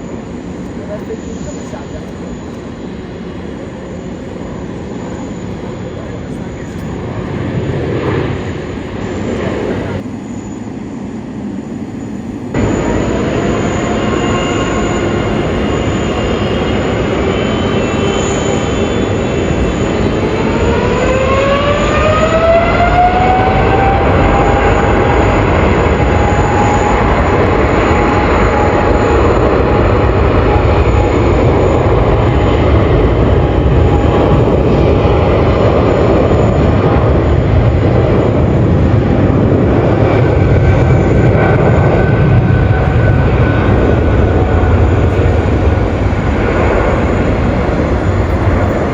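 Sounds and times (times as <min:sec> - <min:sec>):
jet engines spooling up: 0:00.0 - 0:48.9.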